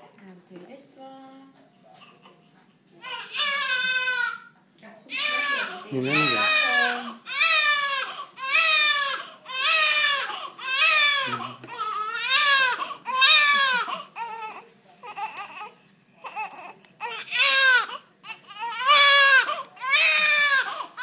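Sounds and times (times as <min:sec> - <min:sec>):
baby crying: 0:03.0 - 0:04.5, 0:05.1 - 0:21.0.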